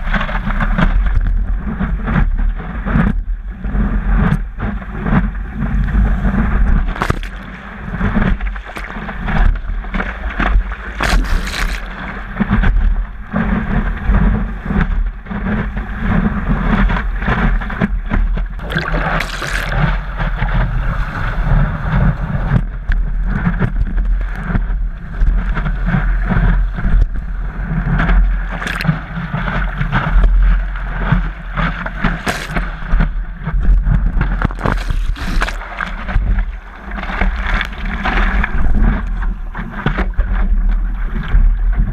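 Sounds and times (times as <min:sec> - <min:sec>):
wind rumbling on microphone: 0:00.0 - 0:41.9
water rushing and splashing: 0:05.6 - 0:14.4, 0:16.5 - 0:41.8.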